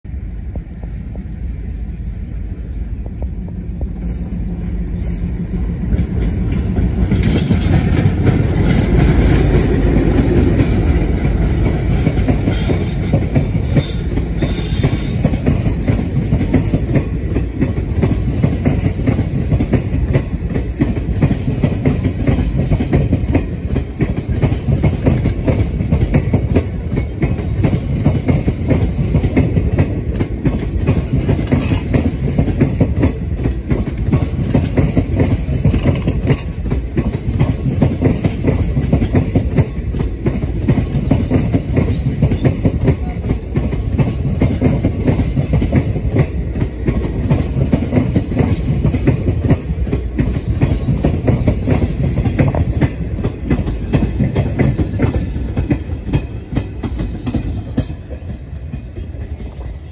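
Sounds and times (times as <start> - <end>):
diesel locomotive engine: 0.0 - 59.9
train wheels rattling on rails: 0.1 - 59.9.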